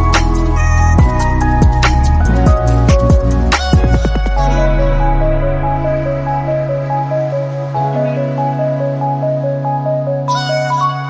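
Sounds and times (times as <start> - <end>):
electronic music with synth and beats: 0.0 - 11.0.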